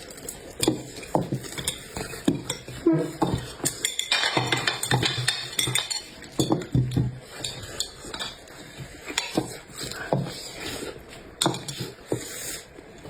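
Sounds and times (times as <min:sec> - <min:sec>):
cutlery scraping against dishes: 0:00.1 - 0:12.8.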